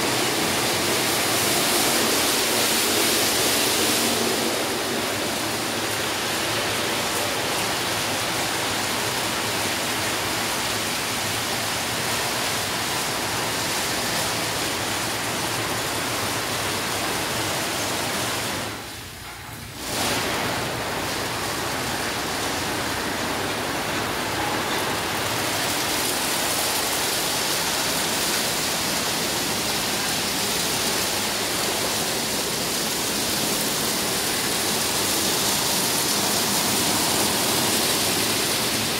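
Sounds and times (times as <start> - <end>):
car wash brushes and spray: 0.0 - 38.9.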